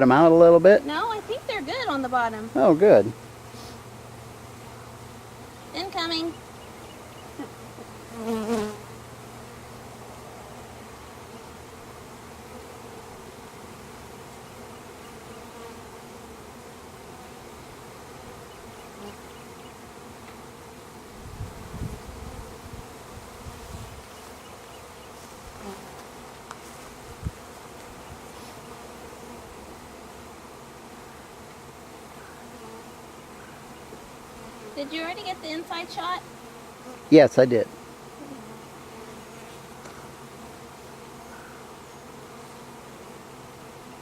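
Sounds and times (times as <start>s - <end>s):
honeybees buzzing: 0.0s - 44.0s.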